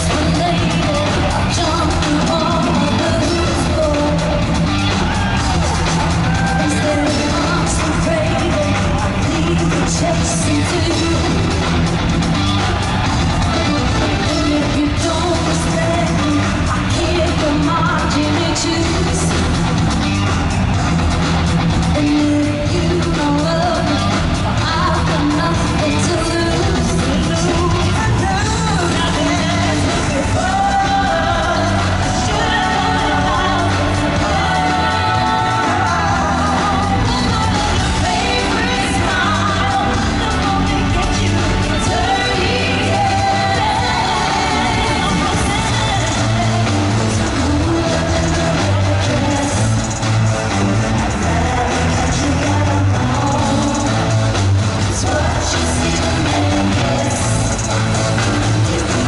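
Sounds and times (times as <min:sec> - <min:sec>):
woman singing: 0:00.0 - 0:20.3, 0:21.8 - 0:59.0
pop band track with bass: 0:00.0 - 0:59.0.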